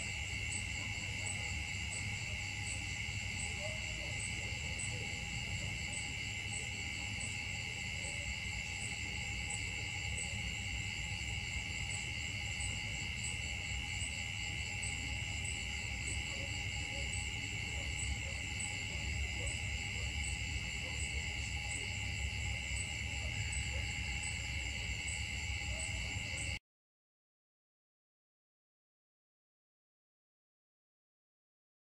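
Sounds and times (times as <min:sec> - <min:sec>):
insect chorus drone: 0:00.0 - 0:26.6.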